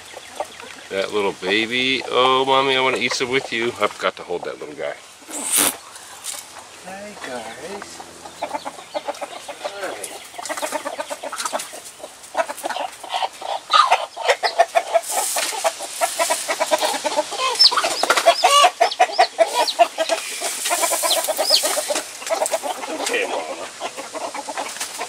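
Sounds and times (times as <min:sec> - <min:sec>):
chick peeping: 0:00.0 - 0:25.0
hens clucking: 0:00.0 - 0:25.0.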